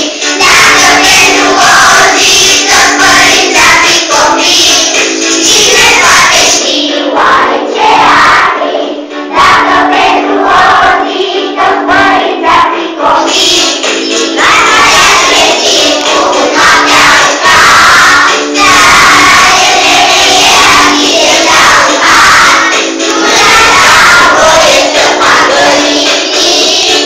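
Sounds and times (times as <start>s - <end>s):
backing music: 0.0s - 27.0s
children singing: 0.0s - 27.0s.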